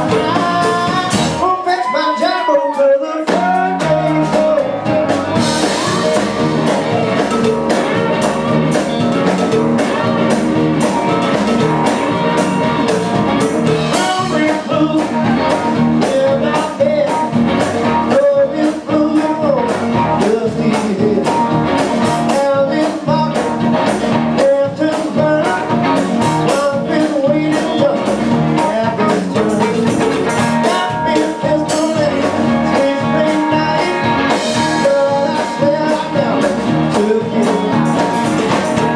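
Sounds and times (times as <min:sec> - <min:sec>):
electric bass: 0:00.0 - 0:01.7, 0:03.2 - 0:38.9
drum kit: 0:00.0 - 0:38.9
resonator guitar: 0:03.4 - 0:38.9.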